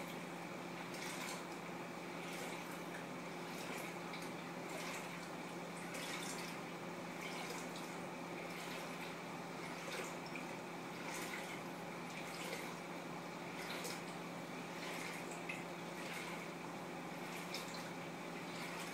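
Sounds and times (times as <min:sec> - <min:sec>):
low hum and hiss: 0:00.0 - 0:18.9.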